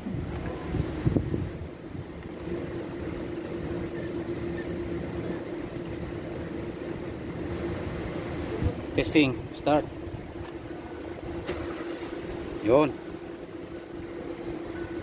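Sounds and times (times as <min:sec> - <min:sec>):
car engine idling: 0:00.0 - 0:15.0
steady hum: 0:00.0 - 0:15.0.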